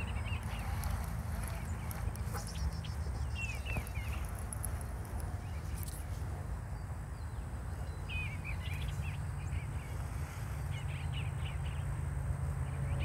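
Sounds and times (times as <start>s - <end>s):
low steady rumble: 0.0s - 13.0s
songbird chirping: 0.0s - 13.0s.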